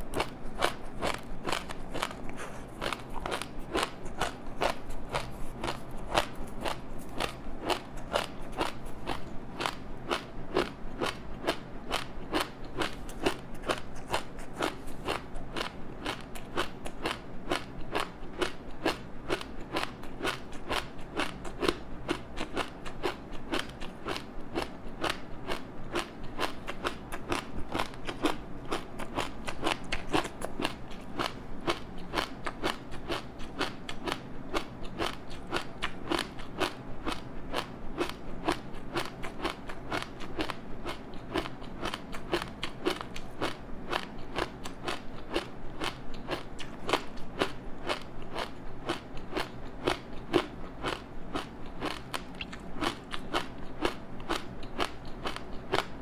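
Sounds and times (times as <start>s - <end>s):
crispy snack crunching: 0.0s - 56.0s.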